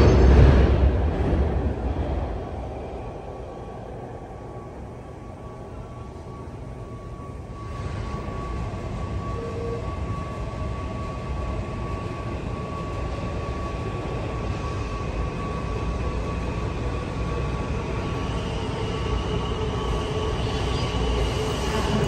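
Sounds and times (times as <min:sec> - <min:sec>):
train rumble in tunnel: 0:00.0 - 0:22.0
train whine: 0:00.0 - 0:22.0.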